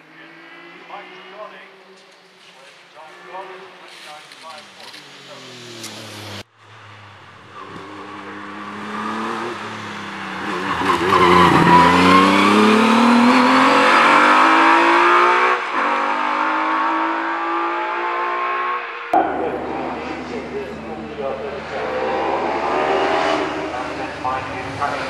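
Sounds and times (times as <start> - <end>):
racing car engine accelerating: 0.0 - 25.0.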